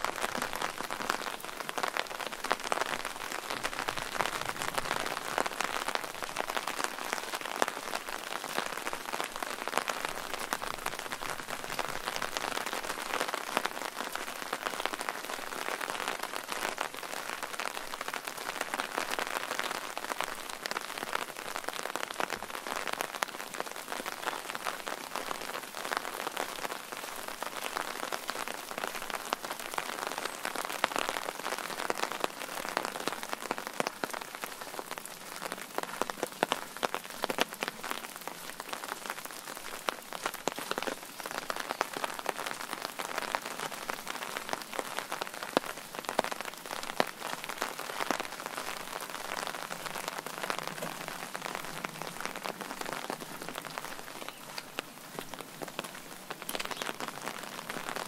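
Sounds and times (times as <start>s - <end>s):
raindrops spattering close by: 0.0s - 58.0s
steady rain falling: 0.0s - 58.0s.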